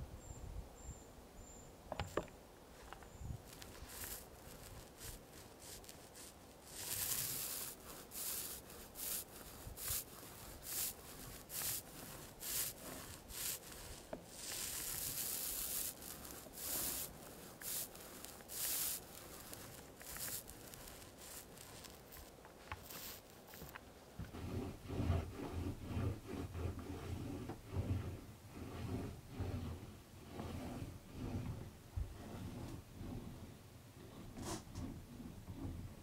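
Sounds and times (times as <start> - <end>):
paint roller rubbing on wood: 2.8 - 36.0.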